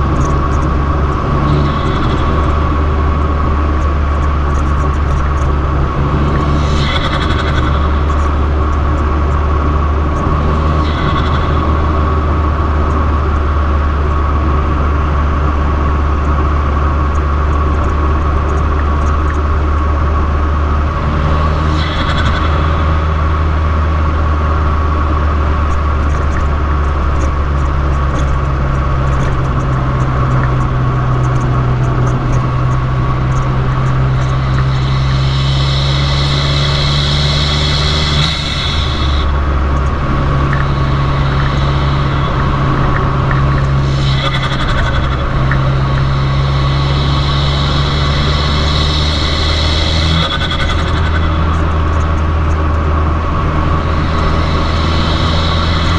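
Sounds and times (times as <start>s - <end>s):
car engine low drone: 0.0s - 55.9s.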